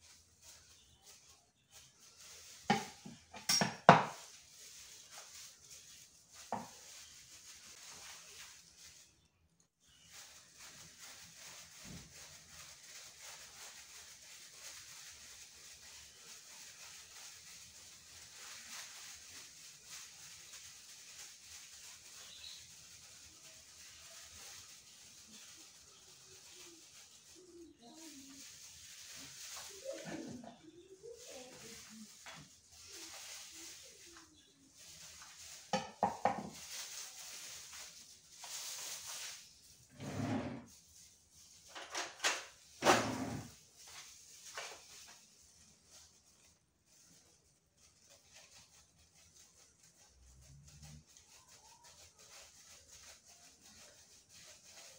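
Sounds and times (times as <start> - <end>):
plastic gloves rustling: 0.0 - 54.9.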